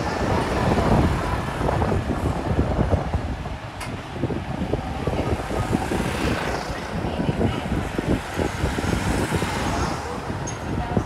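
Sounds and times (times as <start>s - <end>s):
low rumble of road traffic: 0.0s - 11.0s
wind buffeting microphone: 0.0s - 11.0s.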